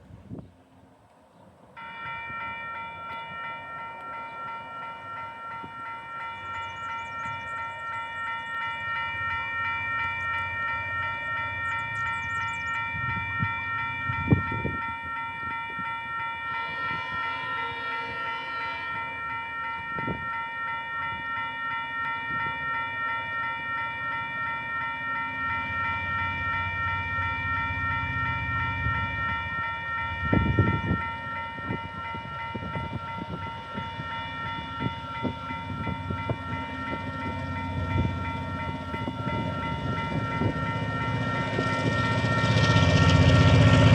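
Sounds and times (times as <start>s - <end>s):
freight train rumbling: 0.0s - 43.9s
level crossing warning bells: 1.7s - 43.9s.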